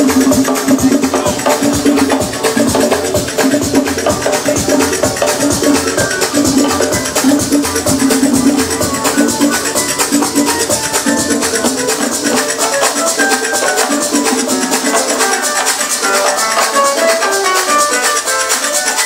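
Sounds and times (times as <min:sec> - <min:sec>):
house music: 0:00.0 - 0:19.0.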